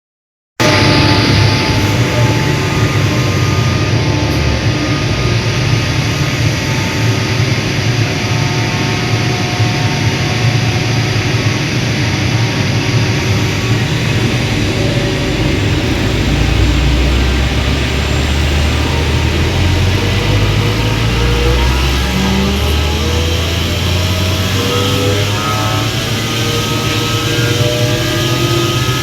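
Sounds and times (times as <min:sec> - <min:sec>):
air compressor running: 0:00.6 - 0:29.0.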